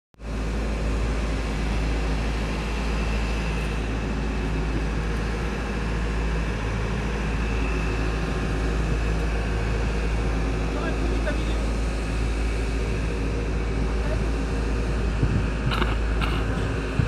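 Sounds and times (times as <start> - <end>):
diesel engine droning: 0.2 - 17.0.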